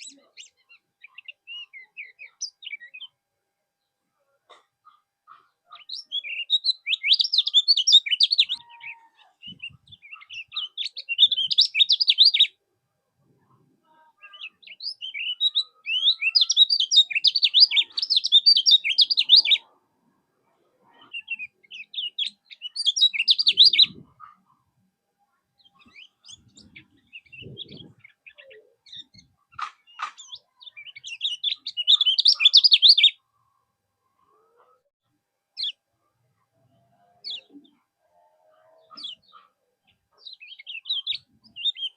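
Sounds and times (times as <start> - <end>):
songbird chirping and twittering: 0.0 - 34.9, 35.5 - 41.9.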